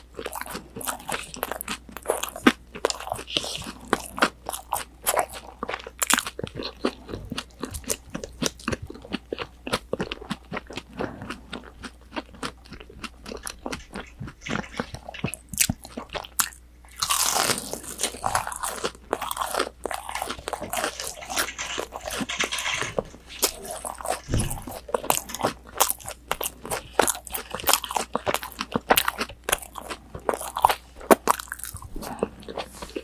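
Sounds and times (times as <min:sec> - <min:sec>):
crunching and chewing fried food: 0:00.0 - 0:33.0.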